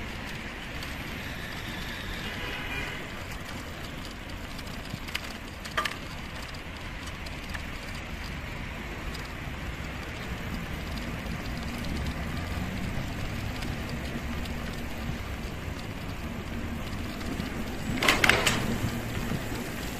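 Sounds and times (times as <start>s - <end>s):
distant road traffic hum: 0.0s - 19.9s.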